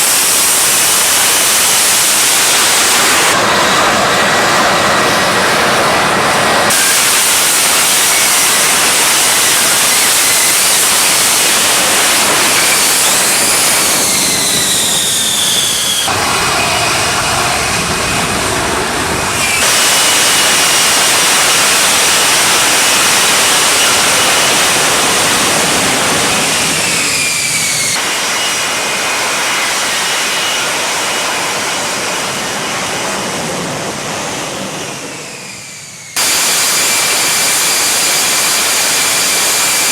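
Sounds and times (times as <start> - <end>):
jet engine roaring flyby: 0.0 - 39.9
jet whine falling in pitch: 0.0 - 39.9.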